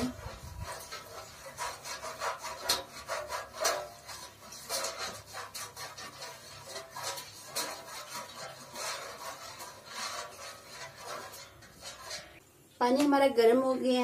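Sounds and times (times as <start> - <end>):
pastry brush scraping metal plate: 0.0 - 12.4.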